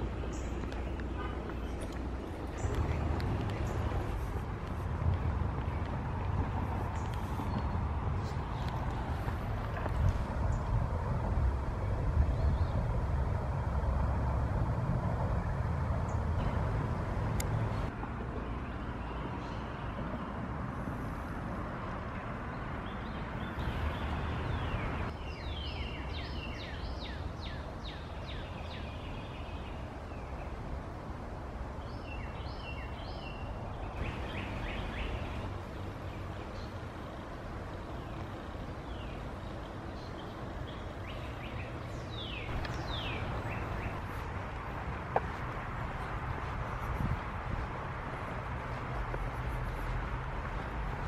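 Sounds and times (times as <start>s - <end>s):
low outdoor rumble: 0.0s - 51.0s.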